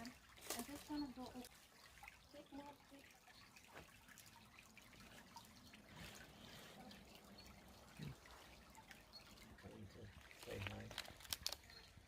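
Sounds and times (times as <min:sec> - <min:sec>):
creek water trickling: 0:00.0 - 0:12.0
small water drips: 0:00.0 - 0:12.0.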